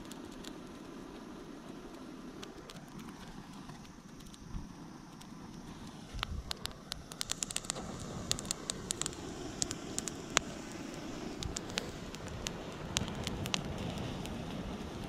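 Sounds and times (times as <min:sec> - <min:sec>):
fire crackles and pops: 0:00.0 - 0:15.0
low rushing noise: 0:00.0 - 0:15.0
reeds and grass burning: 0:00.0 - 0:15.0.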